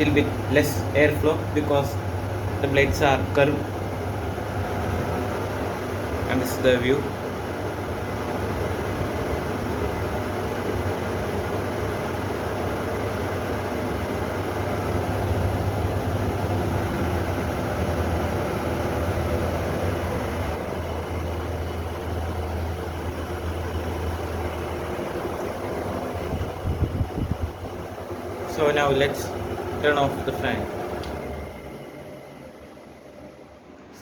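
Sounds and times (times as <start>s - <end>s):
fan air rushing: 0.0s - 34.0s
low motor hum: 0.0s - 34.0s.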